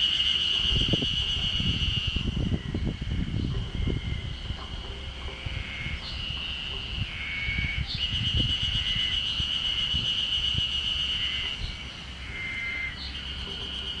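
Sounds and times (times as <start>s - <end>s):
cicadas calling: 0.0s - 14.0s.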